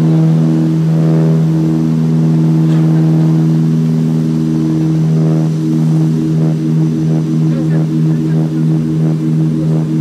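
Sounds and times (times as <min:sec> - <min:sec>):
propeller airliner cabin drone: 0:00.0 - 0:10.0.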